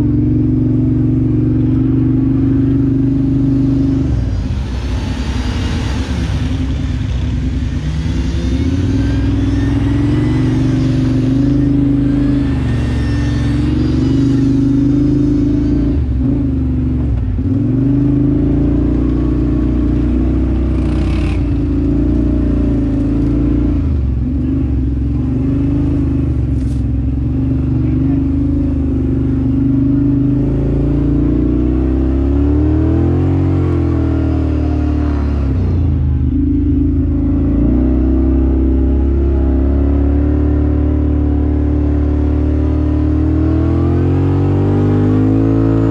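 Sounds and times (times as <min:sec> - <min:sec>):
off-road vehicle engine revving: 0:00.0 - 0:45.9.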